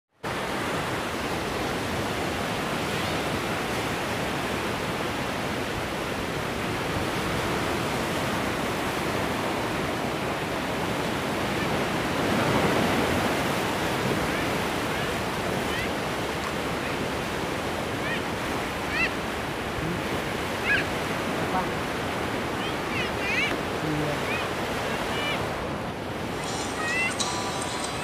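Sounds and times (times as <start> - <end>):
sea surf washing onto shore: 0.2 - 28.0.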